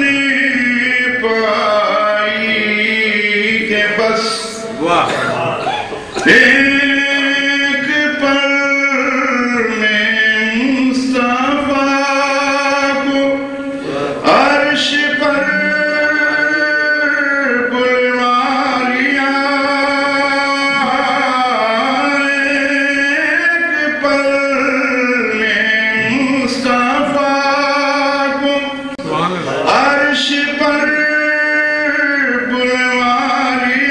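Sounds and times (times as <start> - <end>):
man chanting verse: 0.0 - 33.9.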